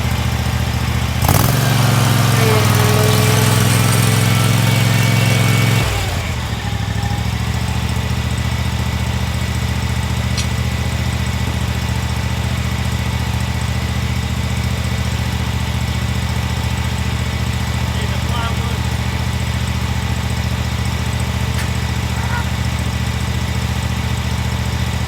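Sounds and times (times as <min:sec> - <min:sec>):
excavator engine revving and idling: 0:00.0 - 0:25.0.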